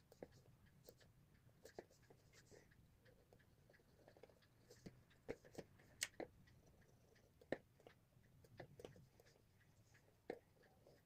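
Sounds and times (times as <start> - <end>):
pen tapping and scratching paper: 0.0 - 11.0.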